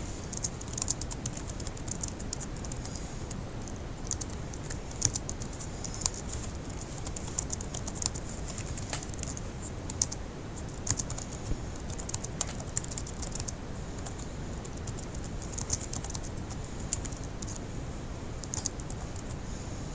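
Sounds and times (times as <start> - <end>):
low background noise: 0.0 - 19.9
laptop keyboard typing: 0.3 - 17.6, 18.4 - 19.3.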